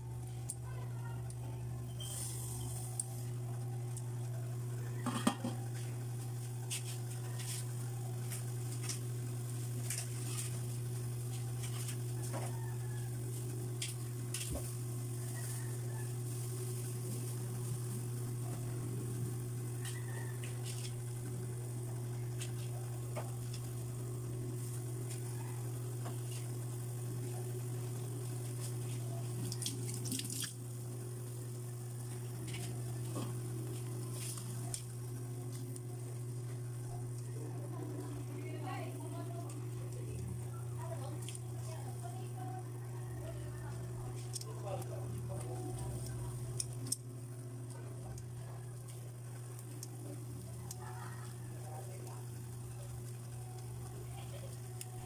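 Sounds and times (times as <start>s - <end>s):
steady low hum: 0.0s - 55.0s
faint crackles: 0.1s - 55.0s.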